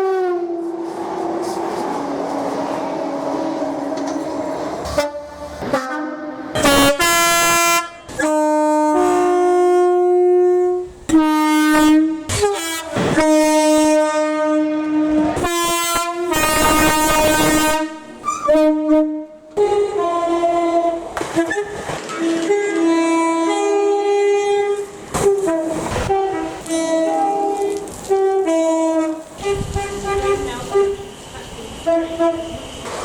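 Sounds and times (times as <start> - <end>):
train horn playing a tune: 0.0 - 31.2, 31.8 - 33.0
train running: 0.0 - 33.0.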